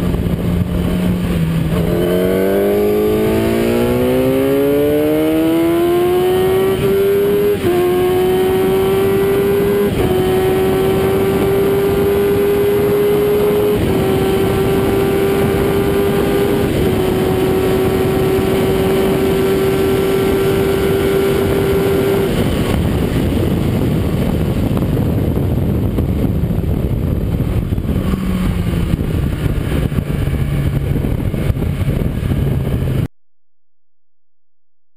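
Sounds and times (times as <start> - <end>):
motorcycle engine at high revs: 0.0 - 33.1
wind roar: 0.0 - 33.1.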